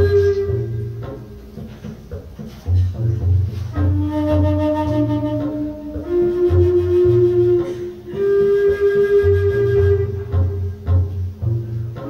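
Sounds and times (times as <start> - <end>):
low drum beat: 0.0 - 12.0
wooden wind instrument long notes: 0.0 - 12.0.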